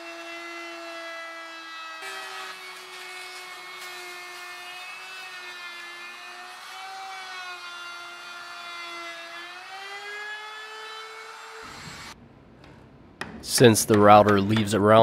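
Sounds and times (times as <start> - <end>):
wood router whining: 0.0 - 12.2.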